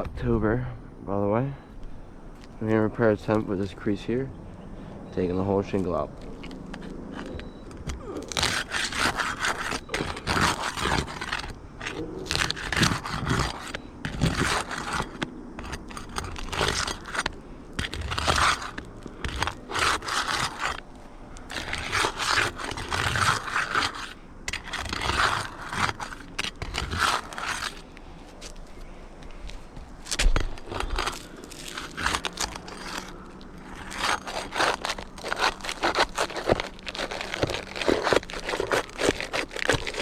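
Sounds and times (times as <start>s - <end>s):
scraping and prying roof shingles: 5.7s - 28.6s, 29.3s - 40.0s.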